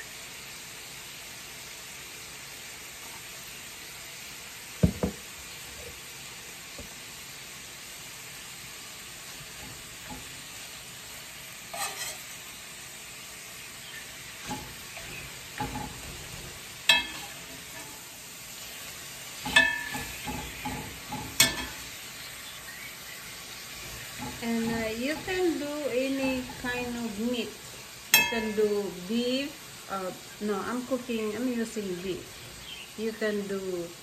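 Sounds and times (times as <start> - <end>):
meat sizzling in a frying pan: 0.0 - 34.0.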